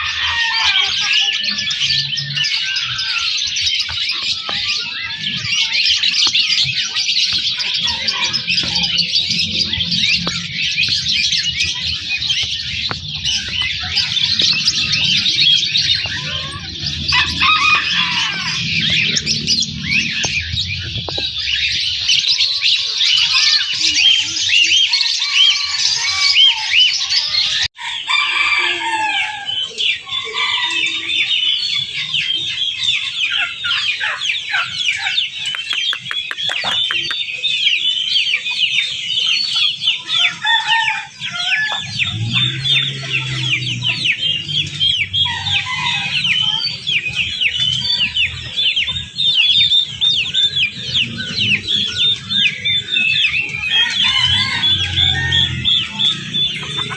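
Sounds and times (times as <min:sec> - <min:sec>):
caged birds chirping: 0:00.0 - 0:56.9.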